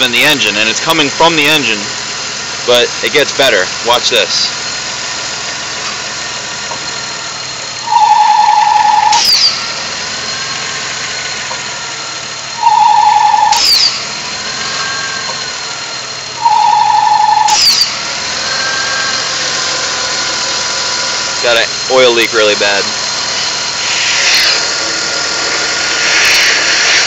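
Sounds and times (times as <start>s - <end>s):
buzzing rattle in engine: 0.0s - 27.0s
car engine idling: 0.0s - 27.0s.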